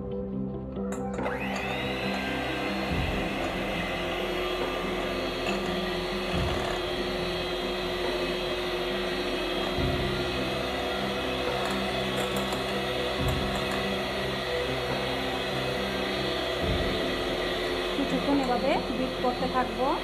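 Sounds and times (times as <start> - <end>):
electric hand mixer whisking eggs: 1.2 - 20.0.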